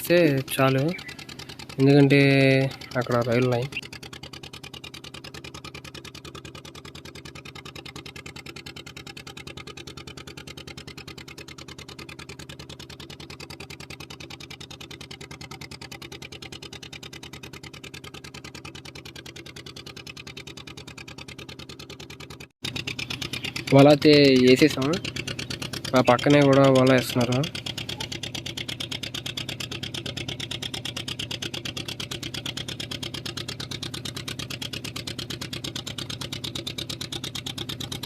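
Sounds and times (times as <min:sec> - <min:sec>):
boat engine pulsing: 0:00.0 - 0:38.0.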